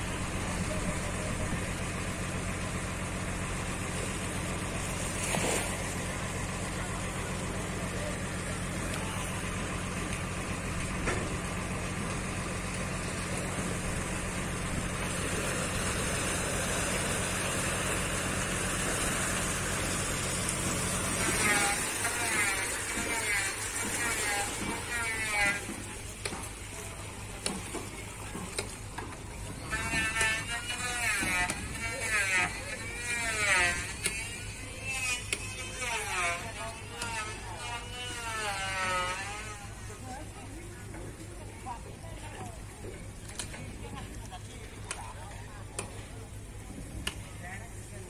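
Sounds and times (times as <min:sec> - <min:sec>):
heavy engine idling: 0:00.0 - 0:37.6, 0:38.9 - 0:48.0.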